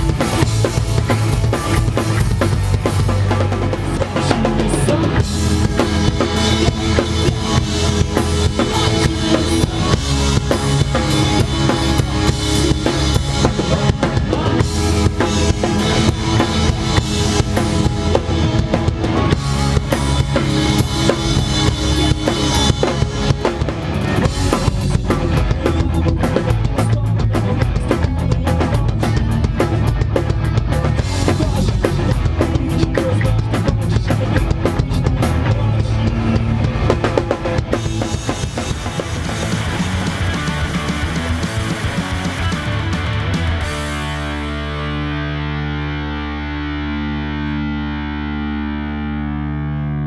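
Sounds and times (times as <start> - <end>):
bass drum and snare beat: 0.0 - 44.5
rock band playing: 0.0 - 50.0.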